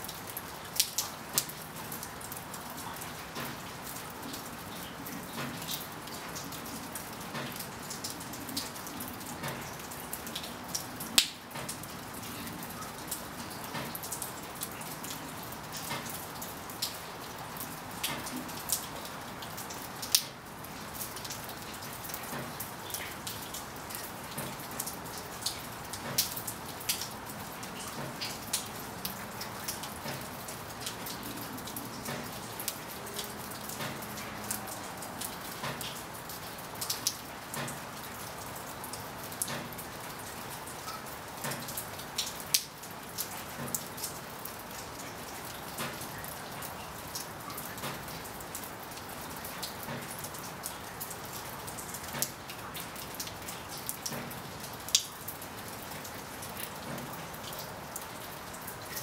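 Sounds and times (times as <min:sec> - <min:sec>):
steady rain falling: 0:00.0 - 0:59.0
raindrops tapping: 0:00.1 - 0:59.0.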